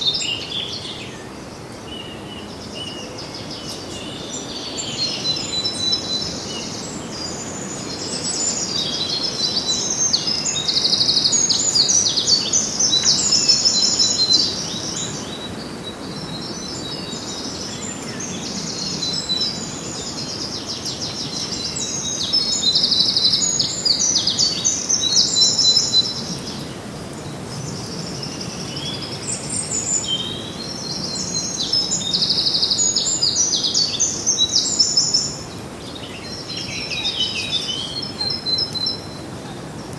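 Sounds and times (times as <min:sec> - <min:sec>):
songbirds trilling and chirping: 0:00.0 - 0:39.9
steady background hiss: 0:00.0 - 0:39.9.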